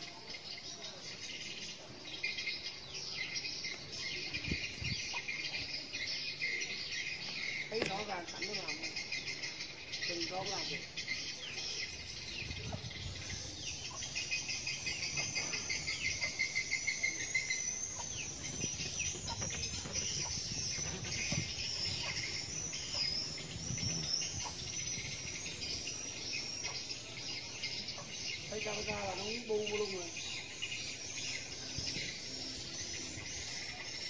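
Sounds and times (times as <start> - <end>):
bird chirps: 0.0 - 34.0
insects chirring: 0.0 - 34.0.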